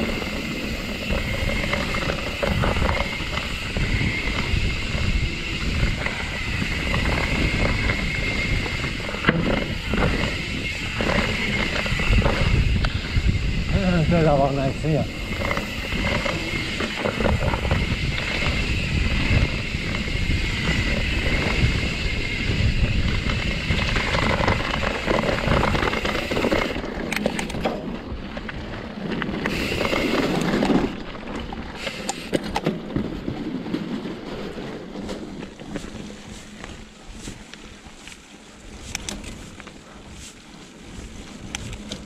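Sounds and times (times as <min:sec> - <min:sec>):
bike rattling: 0:00.0 - 0:42.0
tyres rolling over rocky trail: 0:00.0 - 0:42.0
wind rushing over microphone: 0:00.0 - 0:42.0.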